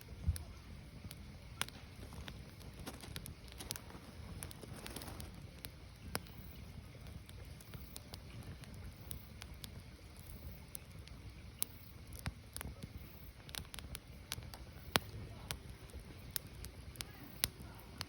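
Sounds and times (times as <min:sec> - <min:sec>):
firewood crackling and popping: 0:00.0 - 0:18.0
low steady fire rumble: 0:00.0 - 0:18.0.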